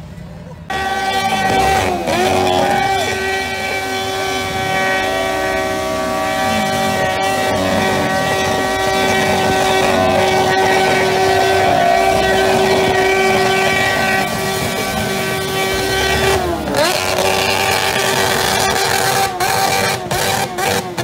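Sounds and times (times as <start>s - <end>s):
motorcycle engine at rev limiter: 0.0s - 21.0s.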